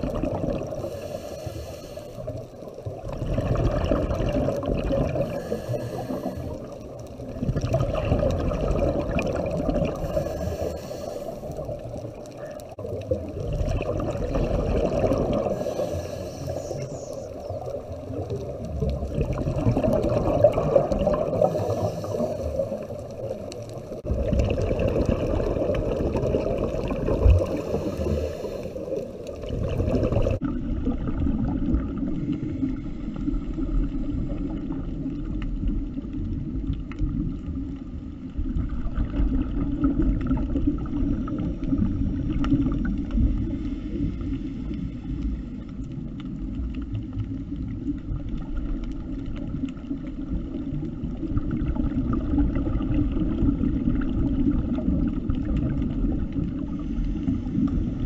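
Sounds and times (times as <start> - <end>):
muffled underwater rumble: 0.0 - 58.0
underwater bubbling: 0.0 - 58.0.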